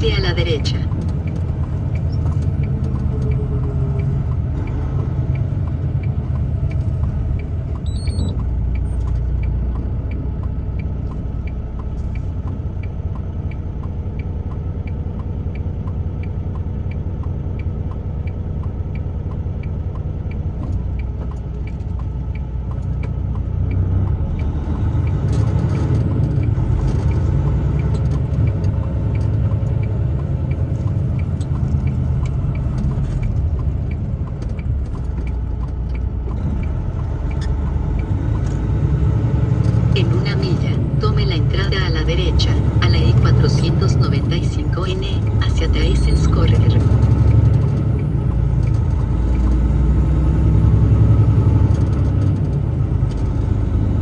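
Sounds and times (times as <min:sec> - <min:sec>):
truck engine and road rumble: 0:00.0 - 0:54.0
turn signal ticking: 0:00.0 - 0:54.0.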